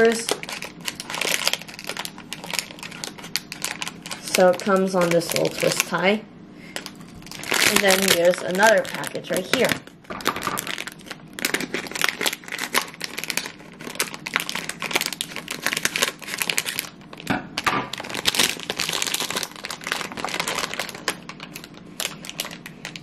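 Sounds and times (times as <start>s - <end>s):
plastic bag crinkling: 0.0s - 6.1s, 6.7s - 23.0s.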